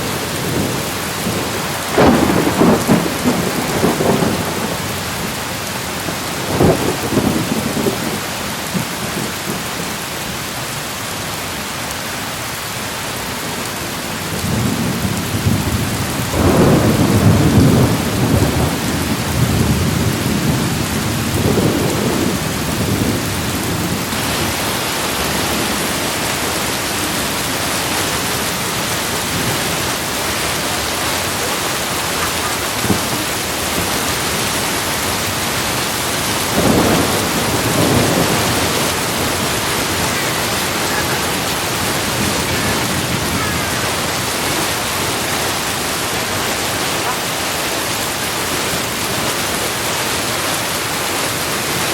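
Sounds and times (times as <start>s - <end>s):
rolling thunder: 0.0s - 9.8s, 14.4s - 49.1s
steady rain: 0.0s - 51.9s.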